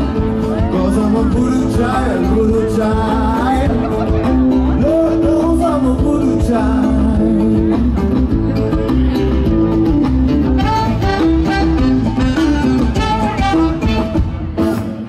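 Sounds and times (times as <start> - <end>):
steady bass beat: 0.0 - 14.6
live band music: 0.0 - 15.0.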